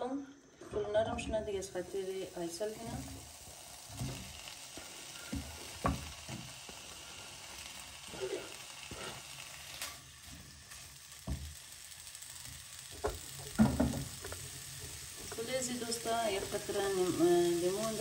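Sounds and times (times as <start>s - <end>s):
chicken sizzling in hot oil: 1.6s - 18.0s.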